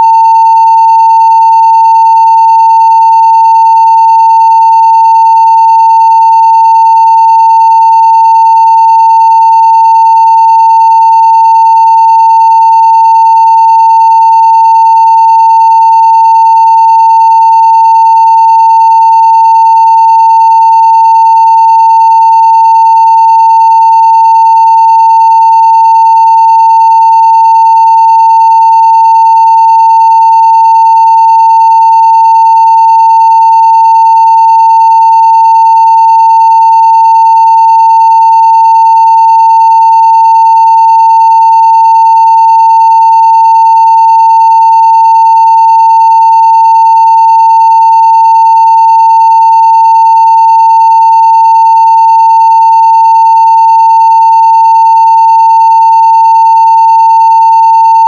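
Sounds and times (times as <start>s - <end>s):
sine wave test tone: 0.0s - 58.0s.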